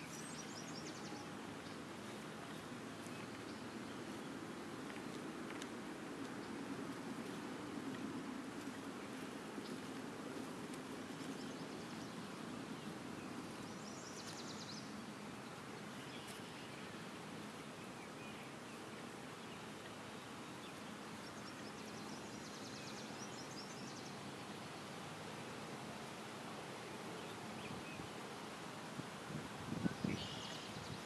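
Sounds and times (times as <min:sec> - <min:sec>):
faint outdoor background noise: 0:00.0 - 0:31.0.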